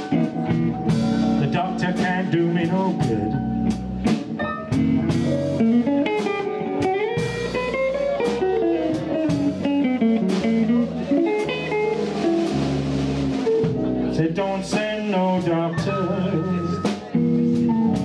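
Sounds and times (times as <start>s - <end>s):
bass guitar: 0.0s - 18.0s
drum kit: 0.0s - 18.0s
electric guitar lead line: 0.0s - 18.0s.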